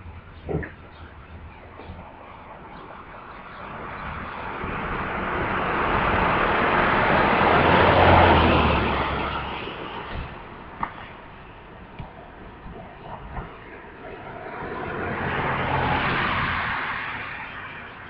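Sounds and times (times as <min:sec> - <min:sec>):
vehicle passing by: 0:00.4 - 0:18.0.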